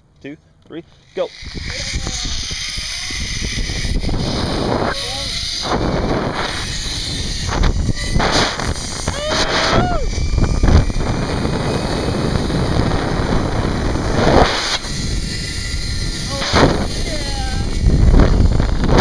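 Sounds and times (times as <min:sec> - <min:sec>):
wind roaring over microphone: 0:01.4 - 0:19.0.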